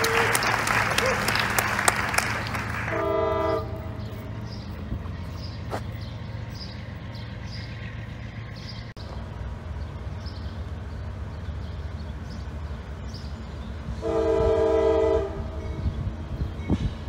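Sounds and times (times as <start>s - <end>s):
distant diesel locomotive rumble: 0.0s - 17.0s.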